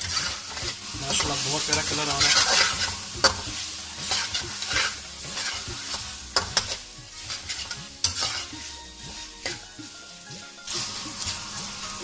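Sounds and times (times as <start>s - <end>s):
spatula scraping and knocking pan: 0.0s - 11.8s
chicken sizzling in a pan: 0.0s - 12.0s.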